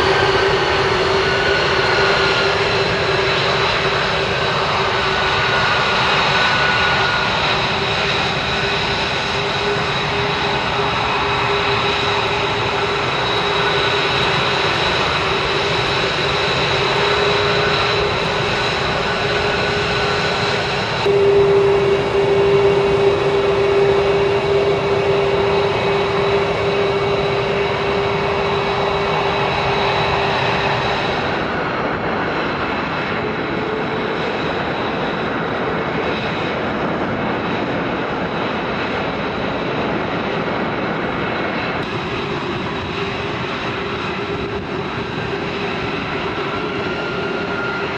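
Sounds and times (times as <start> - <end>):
jet engine roar with whine: 0.0 - 47.9.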